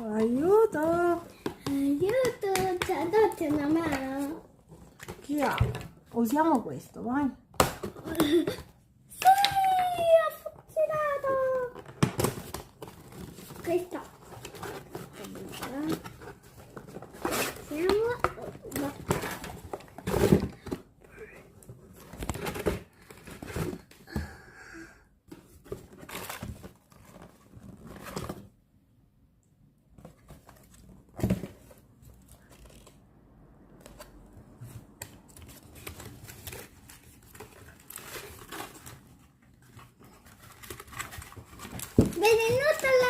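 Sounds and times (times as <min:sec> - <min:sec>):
plastic and cardboard crinkling: 0:00.0 - 0:24.1, 0:25.3 - 0:28.6, 0:29.9 - 0:33.1, 0:33.7 - 0:43.0.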